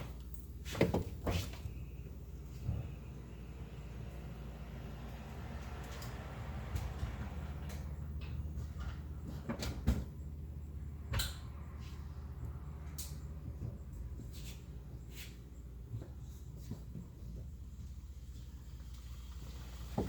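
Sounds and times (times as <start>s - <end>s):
car rolling low rumble: 0.1s - 20.0s.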